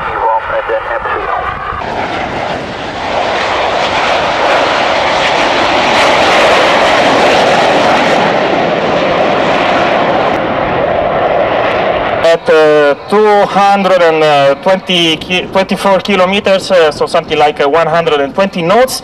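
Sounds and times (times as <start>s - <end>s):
jet aircraft roar: 0.0s - 19.0s.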